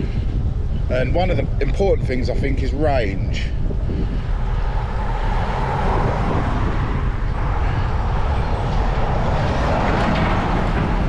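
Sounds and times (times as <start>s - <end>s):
road noise: 0.0s - 11.0s
wind rumble on microphone: 0.0s - 11.0s.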